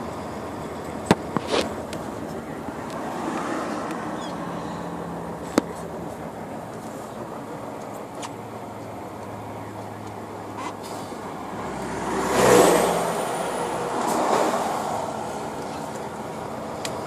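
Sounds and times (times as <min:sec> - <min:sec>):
truck driving heard from cab: 0:00.0 - 0:17.0
vehicles rushing past: 0:00.0 - 0:17.0.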